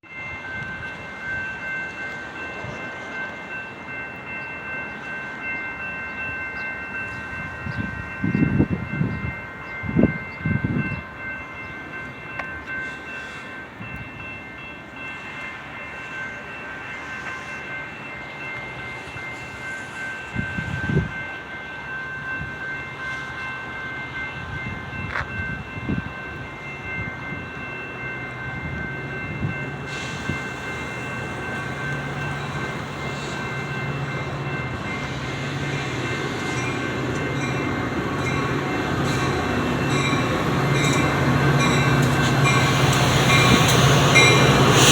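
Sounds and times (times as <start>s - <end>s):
train rumble: 0.0s - 44.9s.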